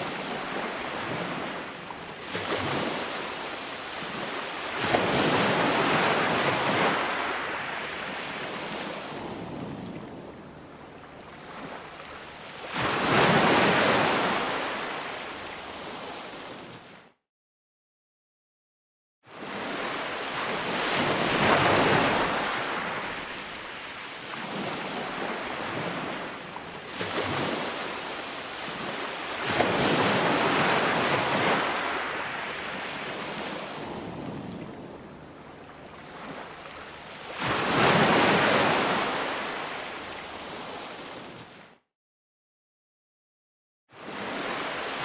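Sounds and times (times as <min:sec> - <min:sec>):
ocean waves breaking: 0:00.0 - 0:17.0, 0:19.3 - 0:41.7.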